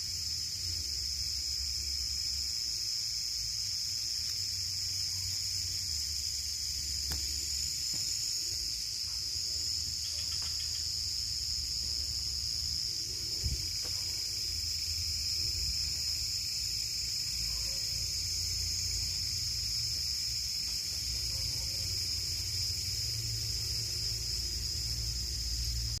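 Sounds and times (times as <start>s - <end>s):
night insects trilling: 0.0s - 26.0s.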